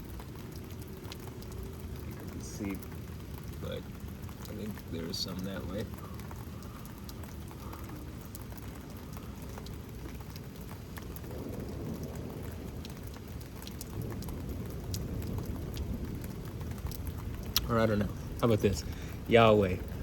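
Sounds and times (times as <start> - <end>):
raindrops ticking near microphone: 0.0 - 20.0
steady rain falling: 0.0 - 20.0.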